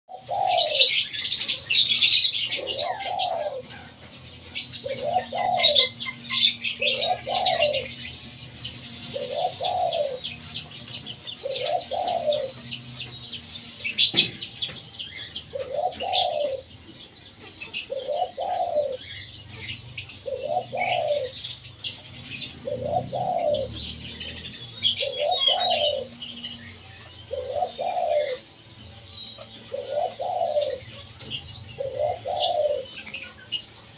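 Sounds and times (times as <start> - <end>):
dove cooing: 0.1 - 33.9
small birds chirping: 0.1 - 33.9.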